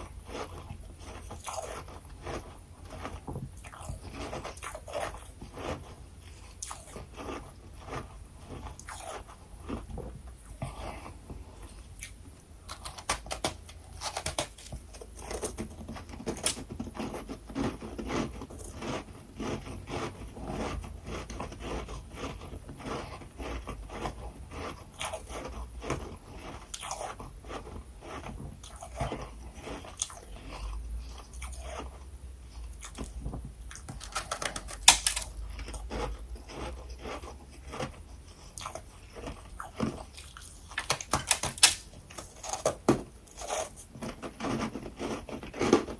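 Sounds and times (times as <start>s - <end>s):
chewing crunchy frost: 0.0s - 45.9s.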